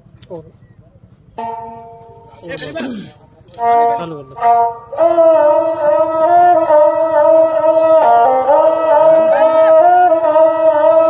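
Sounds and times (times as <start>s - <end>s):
bowed fiddle folk melody: 1.4s - 2.8s, 3.4s - 11.0s.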